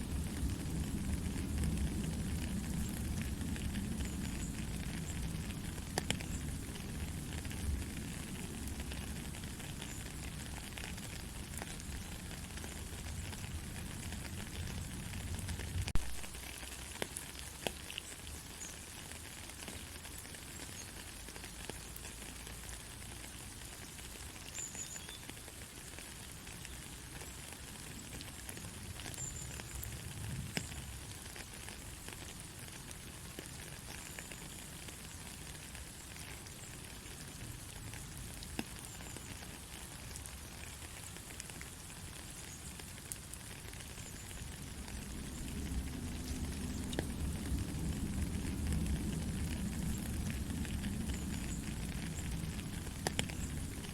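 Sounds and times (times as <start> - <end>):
raindrop ticks: 0.0 - 53.9
soft rain hiss: 0.0 - 53.9.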